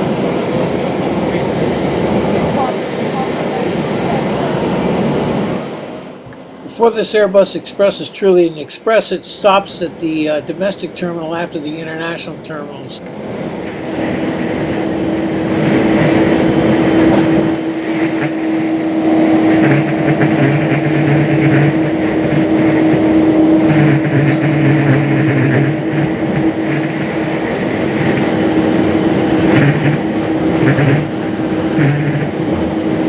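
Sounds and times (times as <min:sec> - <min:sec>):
bus engine and road noise: 0:00.0 - 0:33.0
low drone: 0:00.0 - 0:33.0.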